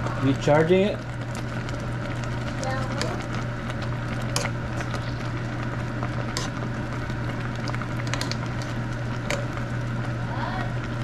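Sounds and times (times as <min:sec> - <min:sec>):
food crackling and sizzling: 0:00.0 - 0:11.0
steady low hum: 0:00.0 - 0:11.0.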